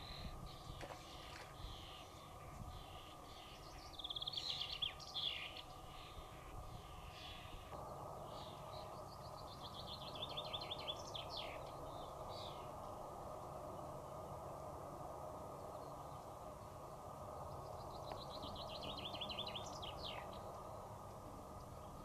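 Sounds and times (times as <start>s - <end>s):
songbird singing: 0.0s - 22.0s
steady rushing noise: 0.0s - 22.0s.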